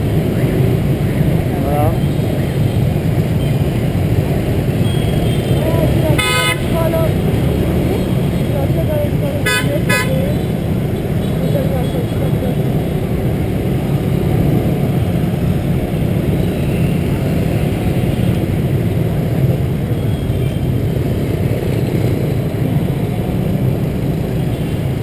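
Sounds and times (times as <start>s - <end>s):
motorbike traffic rumble: 0.0s - 25.0s.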